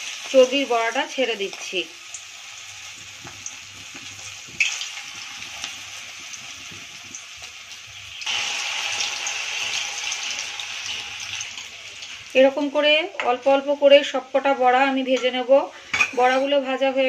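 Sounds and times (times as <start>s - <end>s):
fritters sizzling in hot oil: 0.0s - 16.4s.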